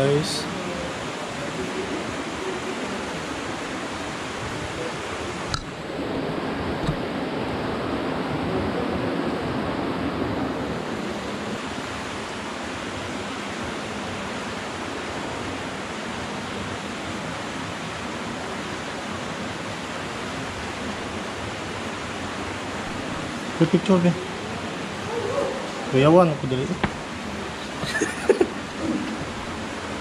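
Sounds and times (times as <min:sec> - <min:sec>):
water rushing in a cave: 0:00.0 - 0:30.0.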